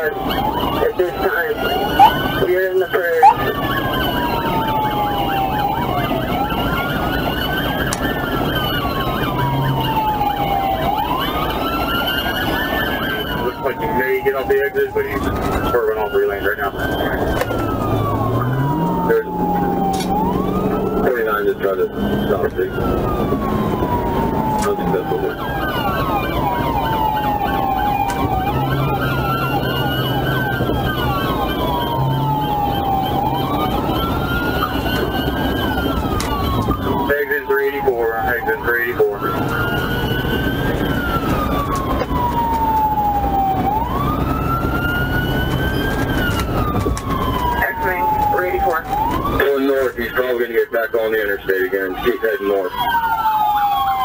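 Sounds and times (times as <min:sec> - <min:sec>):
road noise: 0:00.0 - 0:54.0
siren wailing: 0:00.0 - 0:54.0
siren yelping: 0:00.0 - 0:54.0.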